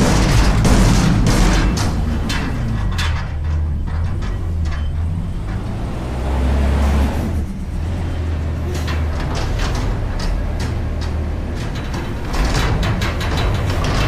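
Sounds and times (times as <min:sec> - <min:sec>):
sharp knocks: 0:00.0 - 0:06.6, 0:08.7 - 0:14.0
garbage truck engine running: 0:00.0 - 0:14.0.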